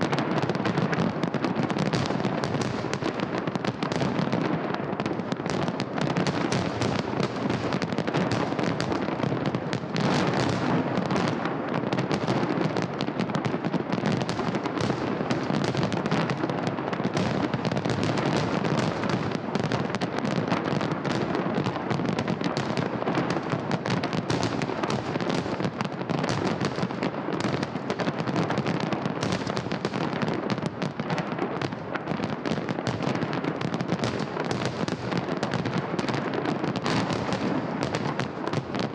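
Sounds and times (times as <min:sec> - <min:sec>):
fireworks crackling and popping: 0:00.0 - 0:38.9.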